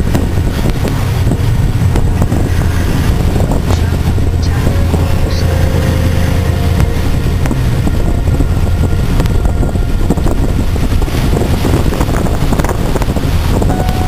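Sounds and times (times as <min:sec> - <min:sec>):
low steady rumble: 0:00.0 - 0:14.0
sea washing: 0:00.0 - 0:14.0
wind buffeting microphone: 0:00.0 - 0:14.0.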